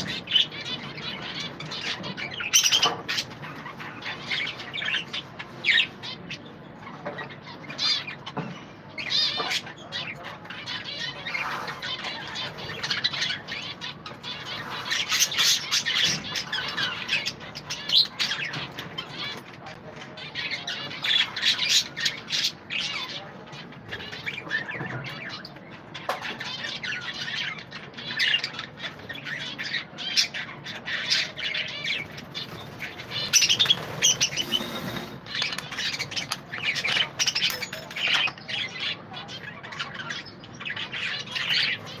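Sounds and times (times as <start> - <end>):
budgerigars chattering and chirping: 0.0 - 42.0.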